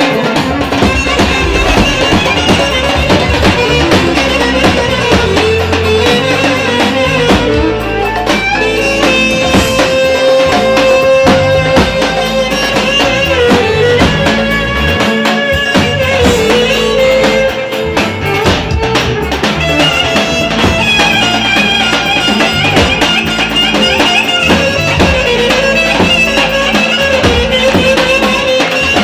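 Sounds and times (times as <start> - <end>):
fast dense drumming: 0.0 - 17.4, 18.1 - 29.0.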